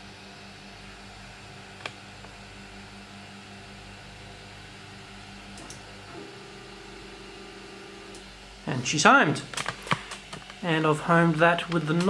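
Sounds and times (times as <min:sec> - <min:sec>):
small cooling fan whirring: 0:00.0 - 0:12.0
stepper motor hum: 0:00.8 - 0:12.0.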